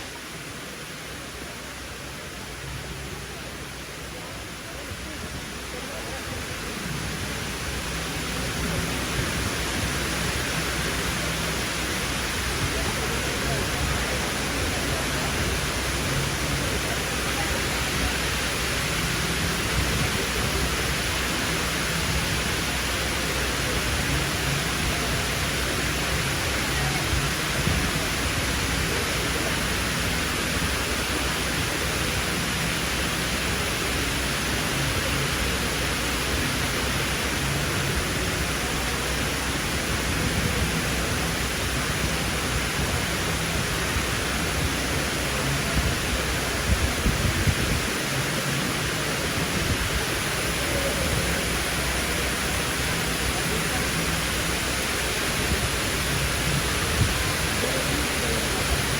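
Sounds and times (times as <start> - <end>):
indoor waterfall rushing: 0.0 - 58.9.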